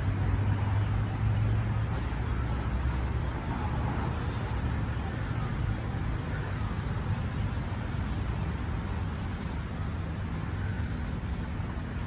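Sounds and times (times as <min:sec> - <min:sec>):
low rumble of park ambience: 0:00.0 - 0:12.0.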